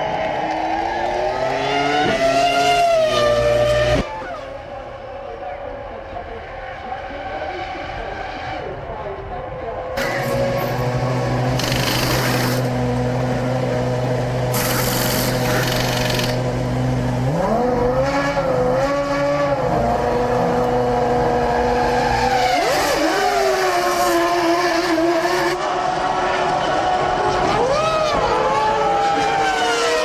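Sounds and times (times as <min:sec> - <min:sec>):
racing car engine: 0:00.0 - 0:30.0.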